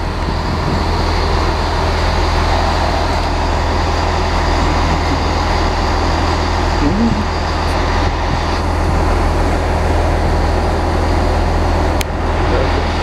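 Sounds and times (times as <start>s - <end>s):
diesel train engine rumble: 0.0s - 13.0s.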